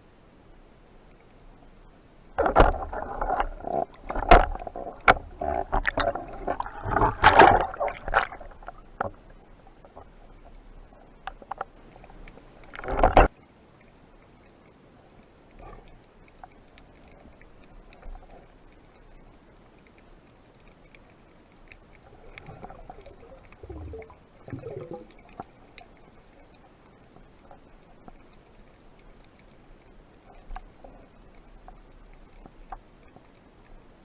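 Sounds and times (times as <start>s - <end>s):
water splashing and sloshing: 1.0s - 13.3s, 15.1s - 34.0s.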